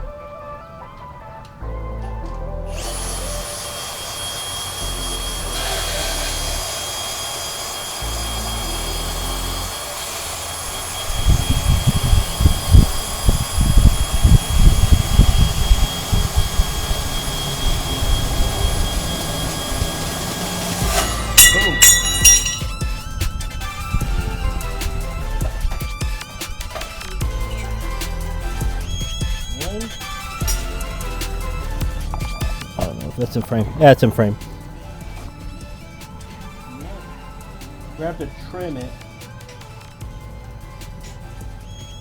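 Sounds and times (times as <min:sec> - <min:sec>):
background music: 0:00.0 - 0:42.0
power tool cutting steel: 0:02.6 - 0:42.0.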